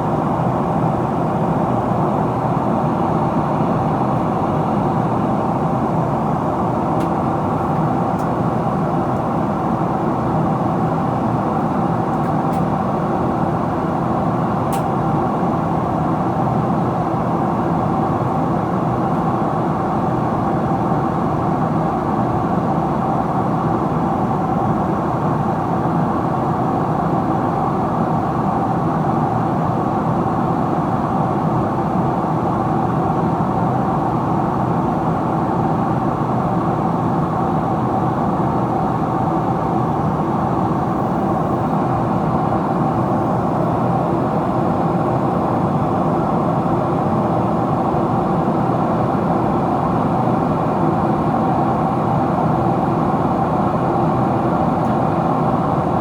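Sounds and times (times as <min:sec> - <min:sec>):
airplane cabin roar: 0:00.0 - 0:56.0.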